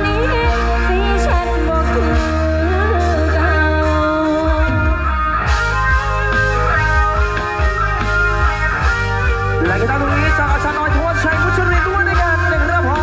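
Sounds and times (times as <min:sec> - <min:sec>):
heavy bass beat: 0:00.0 - 0:13.0
plucked-string lead melody: 0:00.0 - 0:13.0.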